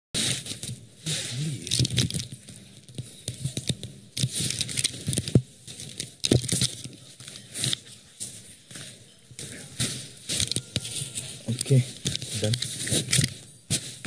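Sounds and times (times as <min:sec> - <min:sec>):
clothing rustling on microphone: 0:00.2 - 0:14.0.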